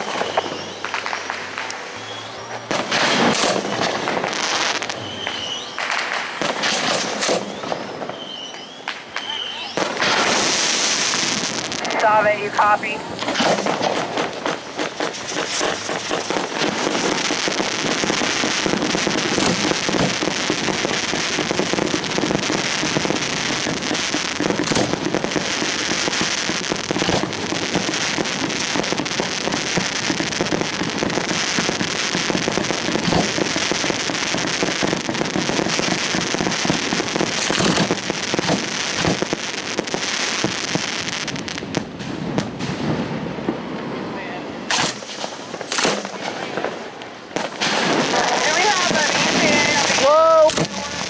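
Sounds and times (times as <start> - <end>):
fireworks crackling and popping: 0.0 - 51.0
loud firework bangs: 0.0 - 51.0.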